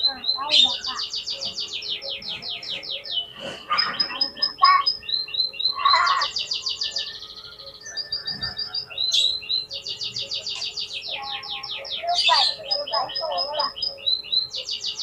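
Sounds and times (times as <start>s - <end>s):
magpie-robin singing: 0.0s - 15.0s.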